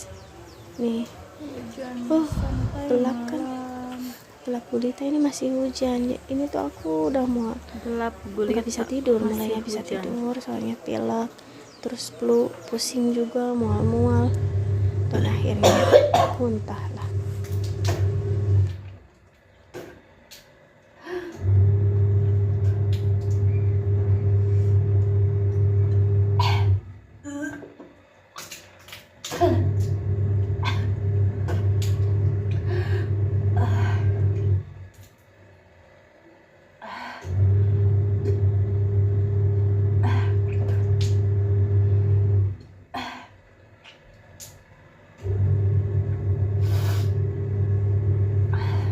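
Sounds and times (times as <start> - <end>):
low electrical hum: 0.0 - 48.9.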